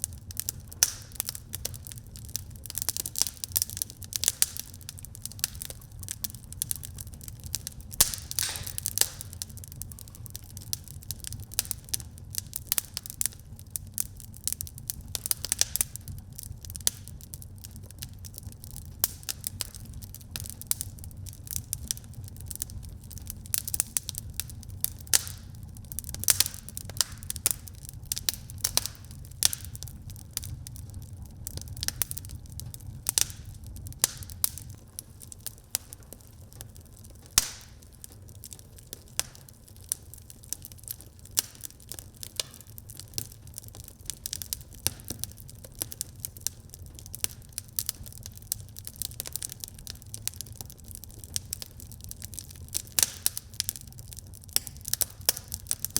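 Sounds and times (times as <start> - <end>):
fire pops and snaps: 0.0 - 55.9
low rumble of burning fire: 0.0 - 55.9.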